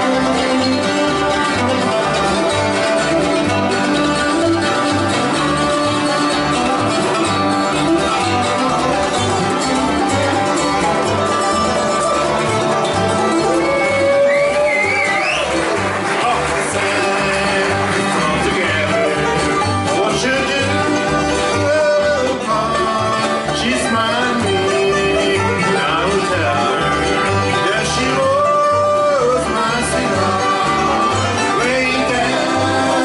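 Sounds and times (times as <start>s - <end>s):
bluegrass band playing: 0.0s - 33.0s.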